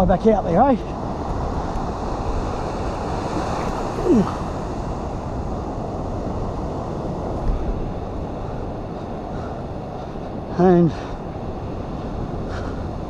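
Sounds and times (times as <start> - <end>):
ocean surf on beach: 0.0 - 13.0
wind buffeting microphone: 0.0 - 13.0.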